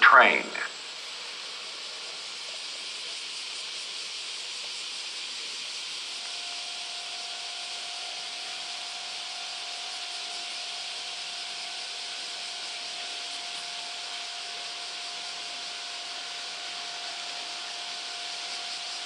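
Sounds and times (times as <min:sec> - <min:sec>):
outdoor ambience hiss: 0:00.0 - 0:19.0.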